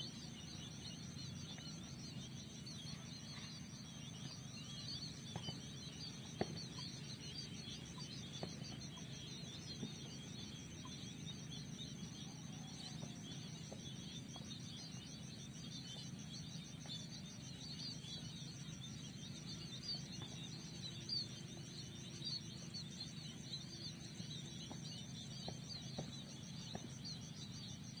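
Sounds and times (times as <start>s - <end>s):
small birds chirping rapidly: 0.0s - 28.0s.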